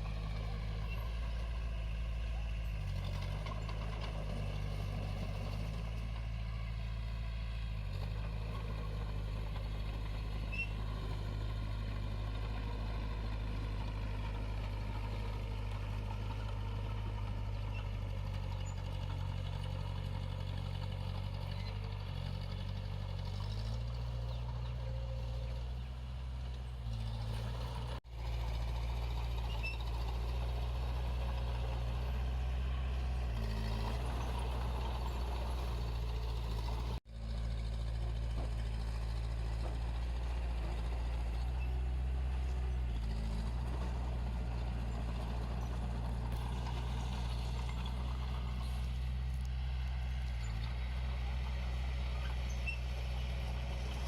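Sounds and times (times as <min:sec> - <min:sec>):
earthmover diesel engine droning: 0:00.0 - 0:54.0.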